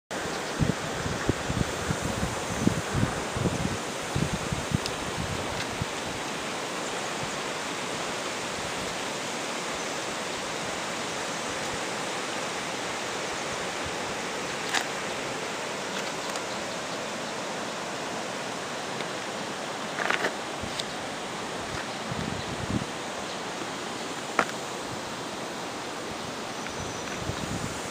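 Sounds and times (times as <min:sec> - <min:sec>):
outdoor noise hiss: 0:00.1 - 0:27.9.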